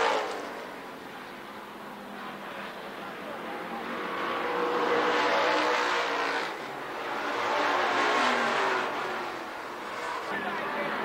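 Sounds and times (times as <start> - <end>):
race cars passing at speed: 0.0 - 11.0.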